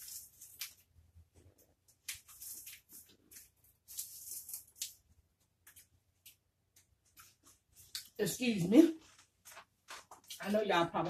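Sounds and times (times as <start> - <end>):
paper crinkling and rustling: 0.0 - 7.9, 8.7 - 10.6.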